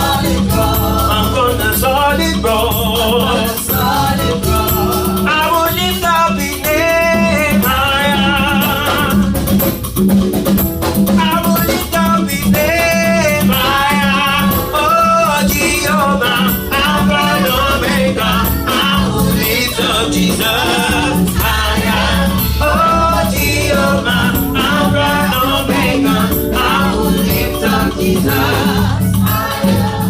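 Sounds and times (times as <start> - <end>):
voices singing gospel music: 0.0 - 9.9, 10.5 - 30.0
band with pulsing beat: 0.0 - 30.0.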